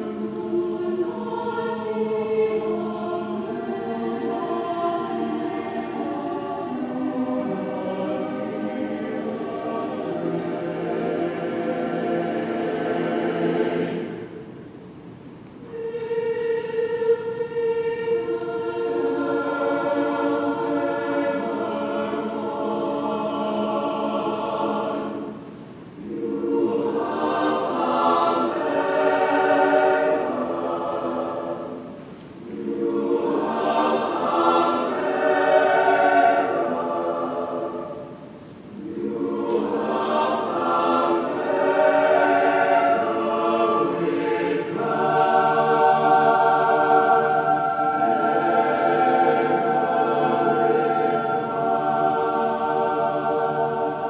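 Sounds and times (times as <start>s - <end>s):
mixed choir singing: 0.0s - 14.6s, 15.6s - 54.0s.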